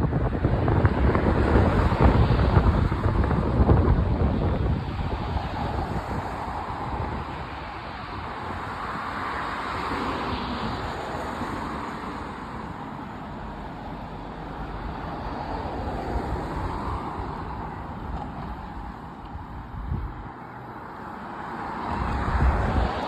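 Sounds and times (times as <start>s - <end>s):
wind buffeting microphone: 0.0s - 12.8s, 14.6s - 20.4s, 21.8s - 23.0s
steady rushing noise: 0.0s - 23.0s.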